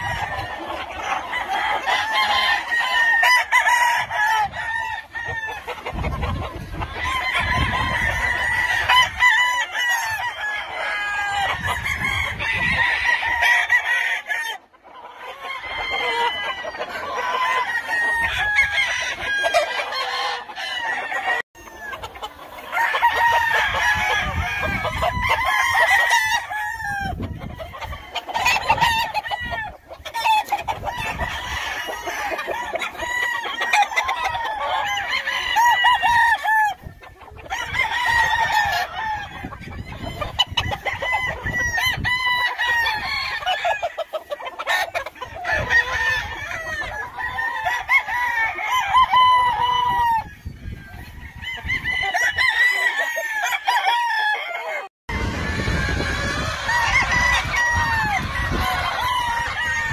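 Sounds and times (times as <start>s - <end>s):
chickens clucking: 0.0s - 59.9s
roosters crowing: 0.0s - 59.9s.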